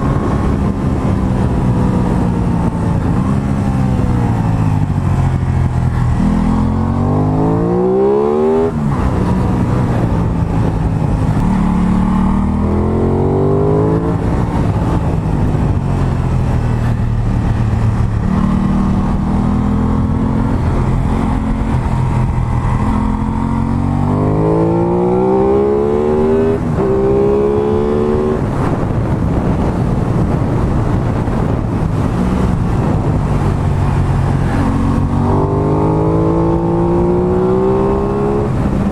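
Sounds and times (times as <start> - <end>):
motorcycle engine revving: 0.0 - 30.3, 30.9 - 38.9.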